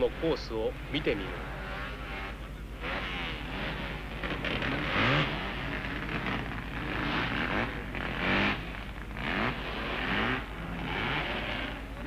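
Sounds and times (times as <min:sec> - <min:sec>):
racing car engine accelerating: 0:00.0 - 0:12.0.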